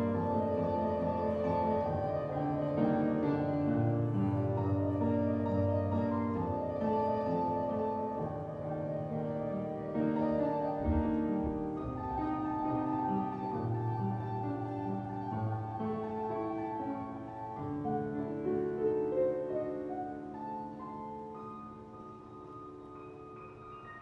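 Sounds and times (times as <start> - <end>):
slow solo piano chords: 0.0 - 24.0.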